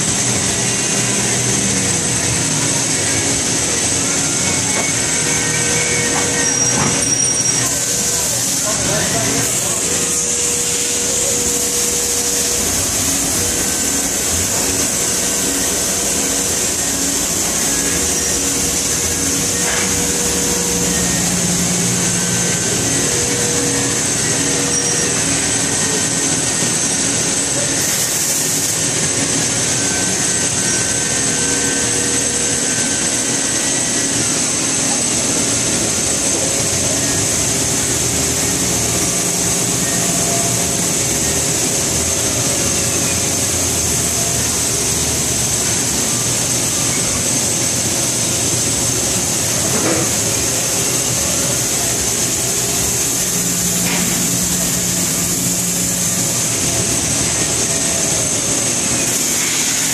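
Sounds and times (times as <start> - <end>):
machining center hissing: 0.0 - 59.9.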